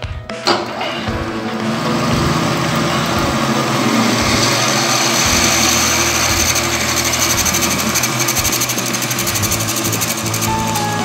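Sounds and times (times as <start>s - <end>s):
metal lathe humming: 1.2s - 11.0s
drill grinding into steel: 1.9s - 11.0s.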